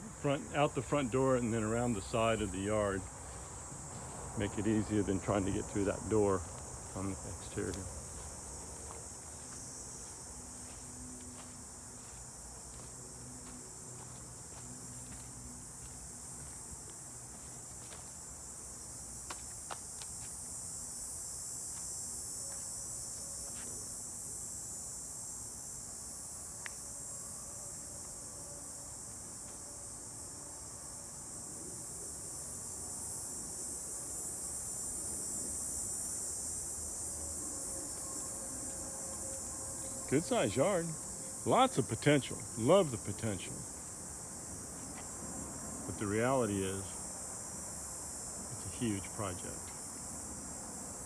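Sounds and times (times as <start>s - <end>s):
insect chorus drone: 0.0s - 51.0s.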